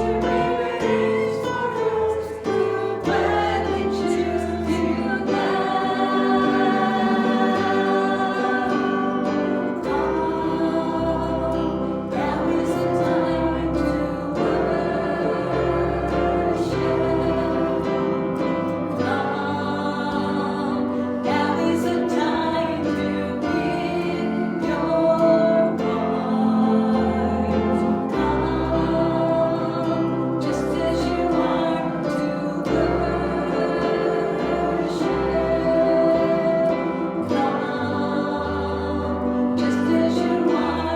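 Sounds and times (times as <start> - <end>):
group singing a hymn: 0.0 - 40.9
instrumental accompaniment: 0.0 - 40.9.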